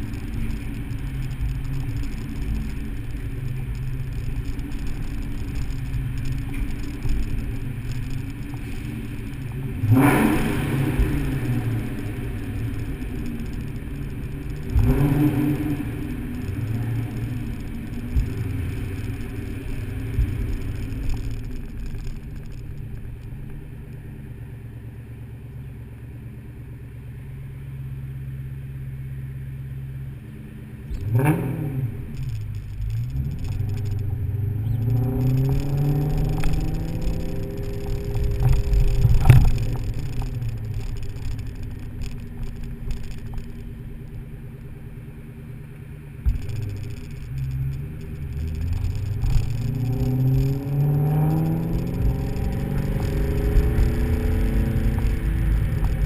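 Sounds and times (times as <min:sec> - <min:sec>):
car engine revving: 0:00.0 - 0:26.7, 0:29.2 - 0:56.0.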